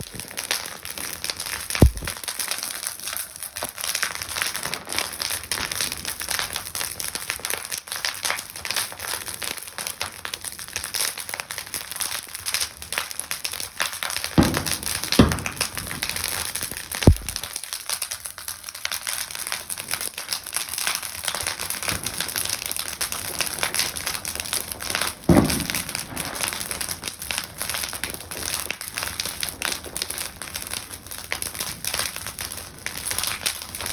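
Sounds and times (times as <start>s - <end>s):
bonfire crackling: 0.0s - 33.9s
fire bangs and pops: 0.0s - 33.9s.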